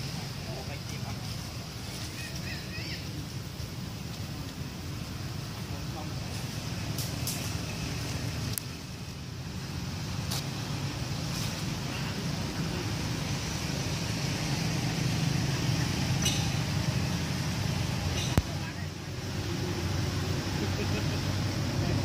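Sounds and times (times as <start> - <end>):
hiss: 0.0 - 18.4.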